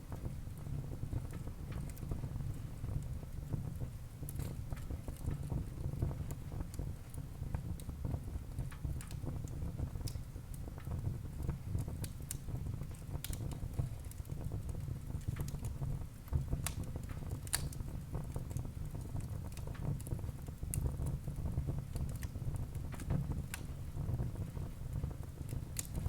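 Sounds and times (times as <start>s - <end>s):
wood burning in a fireplace: 0.0s - 26.0s.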